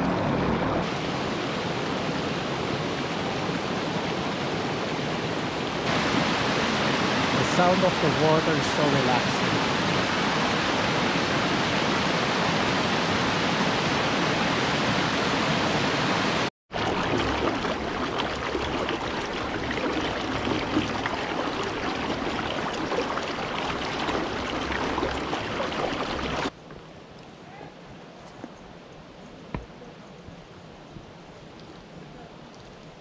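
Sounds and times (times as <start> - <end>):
creek rushing over rocks: 0.0 - 26.6
shallow creek rippling over stones: 0.0 - 27.4.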